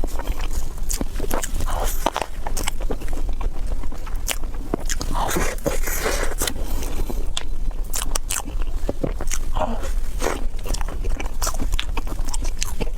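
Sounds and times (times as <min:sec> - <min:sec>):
crisp biting and chewing: 0:00.0 - 0:12.9
steady low hum: 0:00.0 - 0:12.9.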